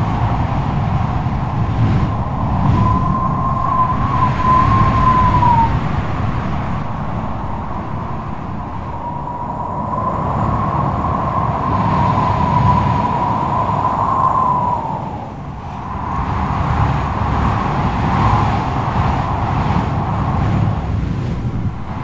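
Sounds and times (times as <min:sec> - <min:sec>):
strong wind gusting and howling: 0:00.0 - 0:22.0.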